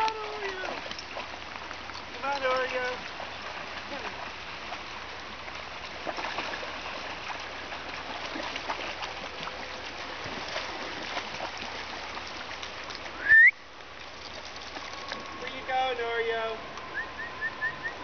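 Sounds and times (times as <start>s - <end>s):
dogs splashing in water: 0.0s - 16.4s
creek running over stones: 0.0s - 18.0s.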